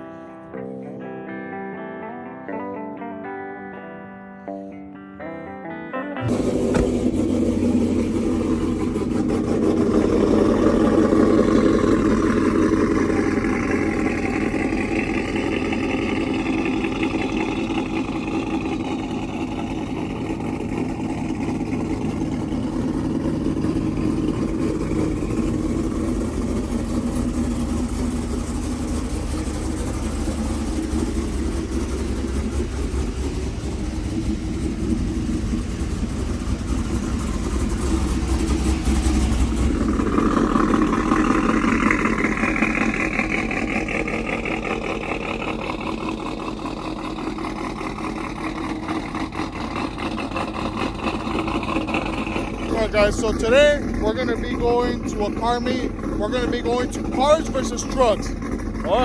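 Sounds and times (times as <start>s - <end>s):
truck engine revving and idling: 6.2s - 59.0s.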